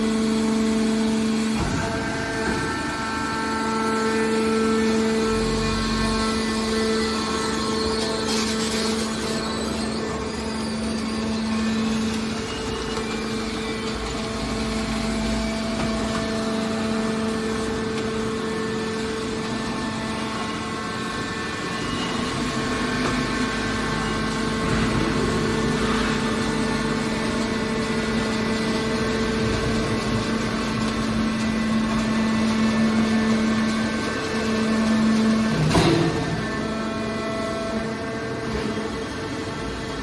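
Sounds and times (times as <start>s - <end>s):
baler machine hum with whine: 0.0s - 40.0s.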